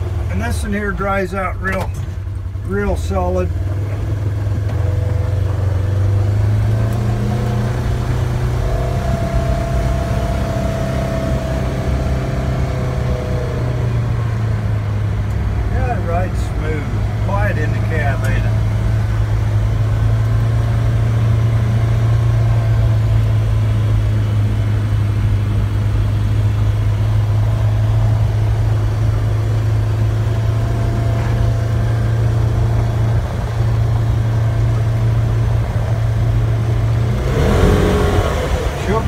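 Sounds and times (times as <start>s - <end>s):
vehicle engine droning: 0.0s - 39.0s.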